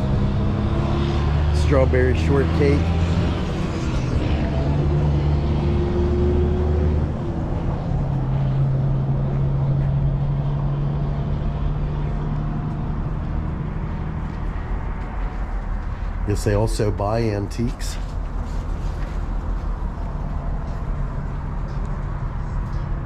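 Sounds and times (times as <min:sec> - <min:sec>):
road noise: 0:00.0 - 0:23.0
vehicle engine running: 0:00.0 - 0:23.0.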